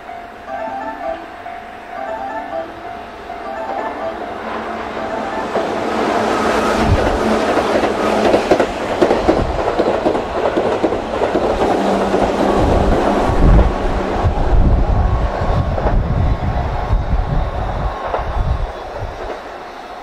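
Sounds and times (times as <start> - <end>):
electric train rushing past: 0.0 - 20.0
low train rumble: 0.0 - 20.0.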